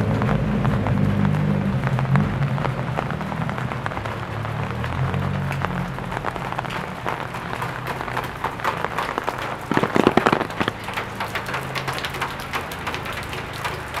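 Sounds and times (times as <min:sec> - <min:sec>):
rain pattering: 0:00.0 - 0:14.0.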